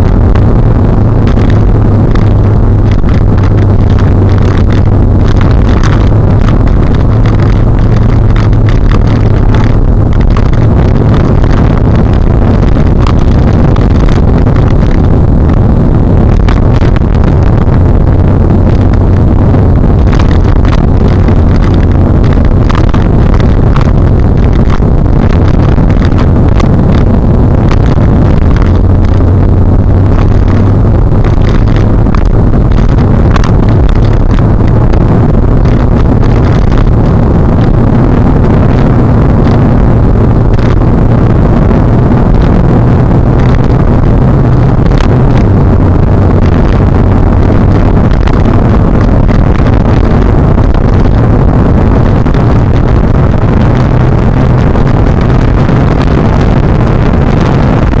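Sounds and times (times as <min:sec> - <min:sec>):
car engine drone: 0:00.0 - 0:58.0
quick buffeting thumps: 0:00.0 - 0:58.0
road and wind noise: 0:00.0 - 0:58.0.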